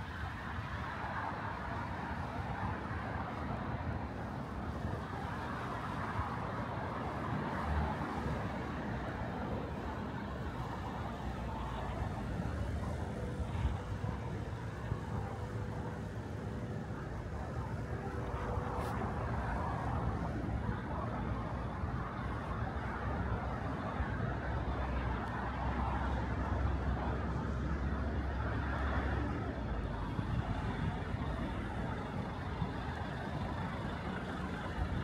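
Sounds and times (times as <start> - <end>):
cars passing: 0.0 - 35.0
faint steady tone: 0.0 - 35.0.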